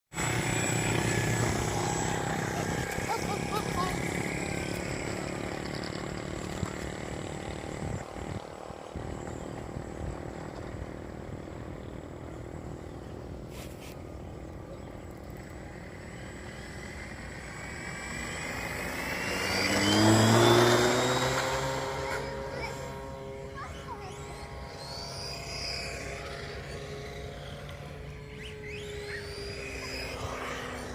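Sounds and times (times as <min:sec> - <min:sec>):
electric model plane motor whine: 0:00.2 - 0:30.9.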